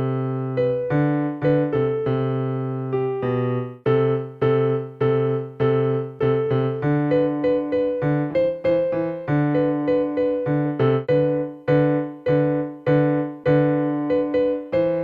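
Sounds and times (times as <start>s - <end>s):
electronic keyboard piano tune: 0.0s - 15.0s.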